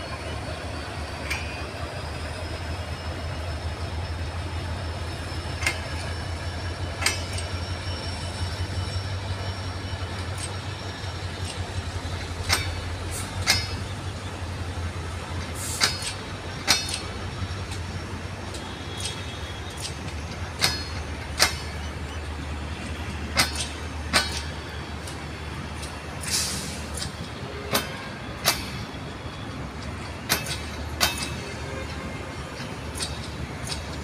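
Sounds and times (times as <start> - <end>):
train rumbling past: 0.0 - 34.0
wheels clacking over rail joints: 0.0 - 34.0.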